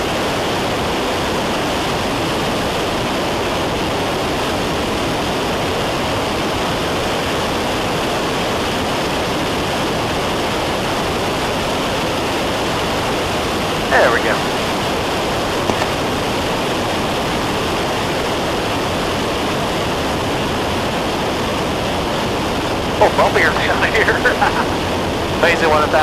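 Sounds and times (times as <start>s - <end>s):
small plane cabin noise: 0.0s - 26.0s.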